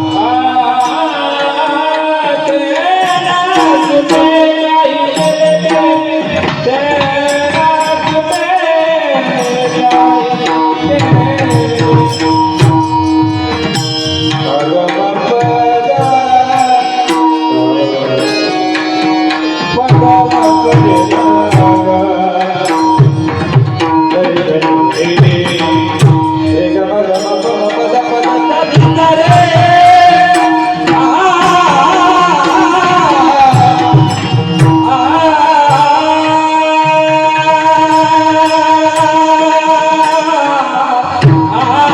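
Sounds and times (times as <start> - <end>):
person singing: 0.0 - 41.9
tabla playing: 0.0 - 41.9.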